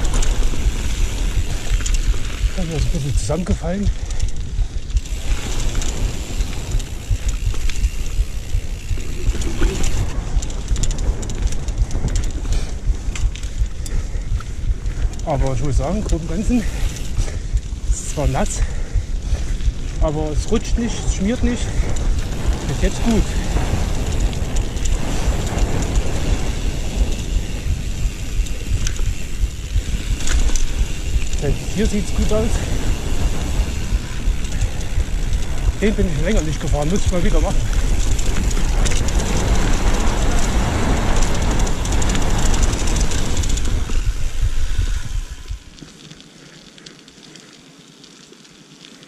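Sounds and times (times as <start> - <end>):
wind buffeting microphone: 0.0 - 45.8
bike rattling over bumps: 0.0 - 49.0
bike tyres rumbling on dirt: 0.0 - 49.0.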